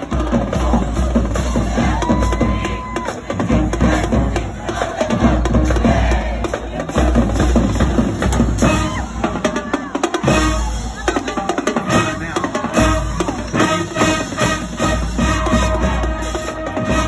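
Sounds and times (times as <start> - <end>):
drumline with bass drums: 0.0 - 17.0
marching band playing: 0.0 - 17.0.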